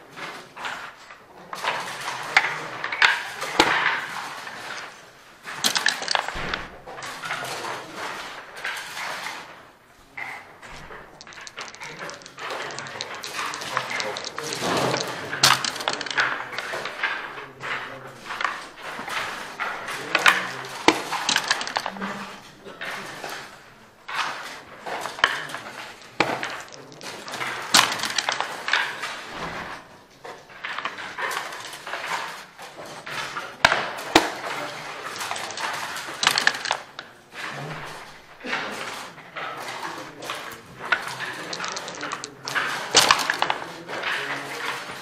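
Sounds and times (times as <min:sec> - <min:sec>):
dice and checkers clattering on board: 0:00.0 - 0:45.0.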